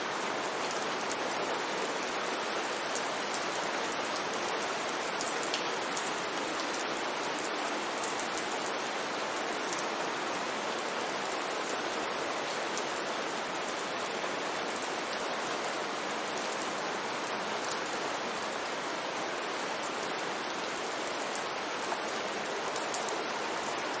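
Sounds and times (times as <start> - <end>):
rain on a street: 0.0 - 24.0.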